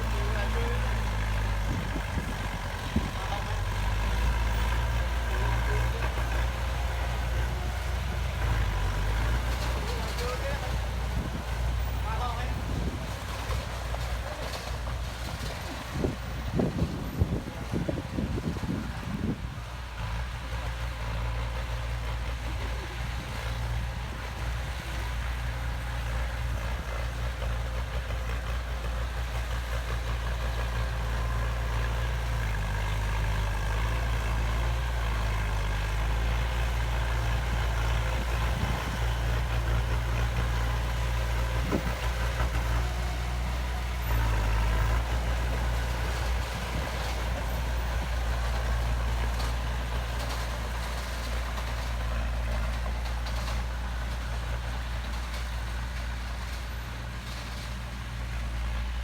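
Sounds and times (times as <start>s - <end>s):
diesel engine deep rumble: 0.0s - 59.0s.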